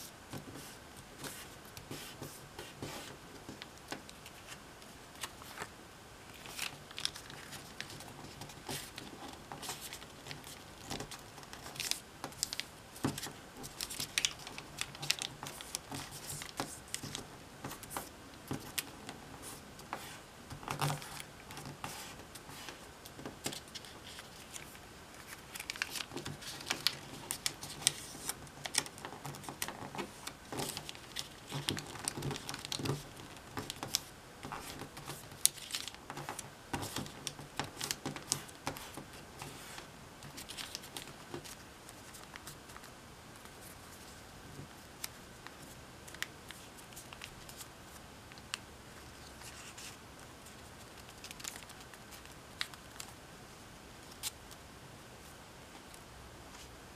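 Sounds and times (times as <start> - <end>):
paper being folded and creased: 6.3 - 44.2, 45.0 - 53.2.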